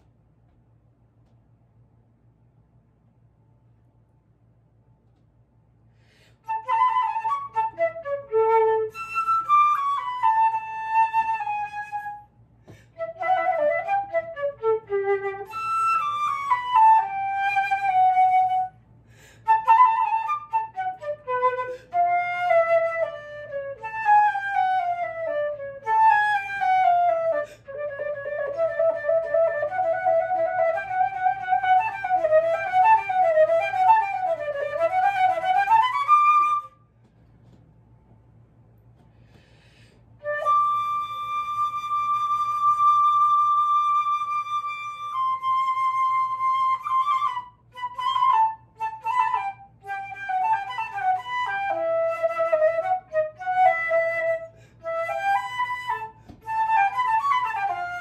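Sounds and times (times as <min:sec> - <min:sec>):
solo flute playing: 0:06.3 - 0:37.0, 0:40.1 - 0:58.0.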